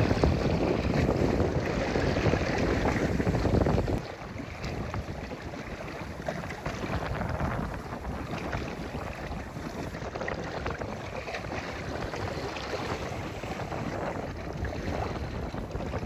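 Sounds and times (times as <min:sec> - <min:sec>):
sea noise: 0:00.0 - 0:16.0
wind: 0:00.0 - 0:16.0
wind buffeting microphone: 0:00.0 - 0:16.0.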